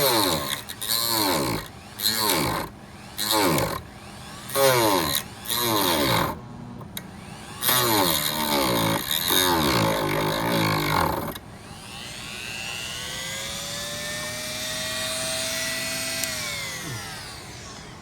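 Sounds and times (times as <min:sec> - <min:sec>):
rotary tool cutting plastic: 0:00.0 - 0:18.0.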